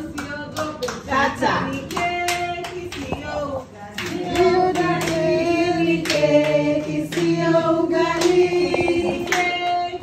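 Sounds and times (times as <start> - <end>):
group singing long notes: 0.0 - 10.0
hand claps: 0.0 - 10.0.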